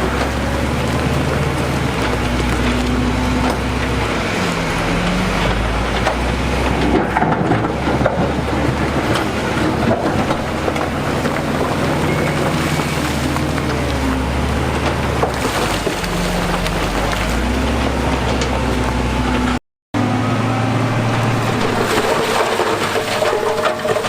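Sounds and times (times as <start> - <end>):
knocks and clatter: 0.0 - 19.6, 21.1 - 24.0
heavy diesel engine running: 0.0 - 24.0.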